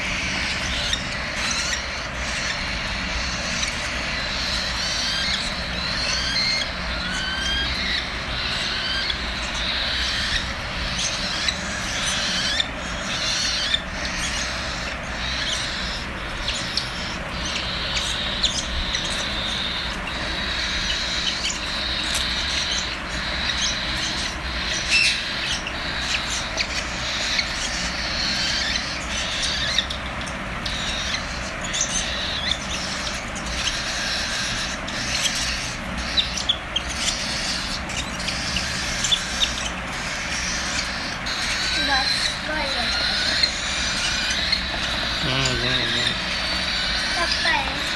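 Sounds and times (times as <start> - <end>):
bird chicks raspy chirping: 0.0 - 47.9.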